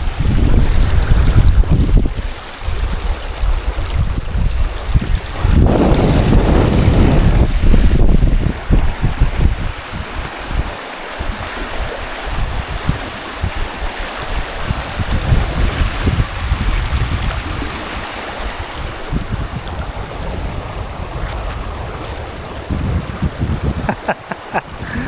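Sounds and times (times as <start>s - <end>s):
wind buffeting microphone: 0.0s - 25.0s
waterfall rushing: 4.9s - 25.0s.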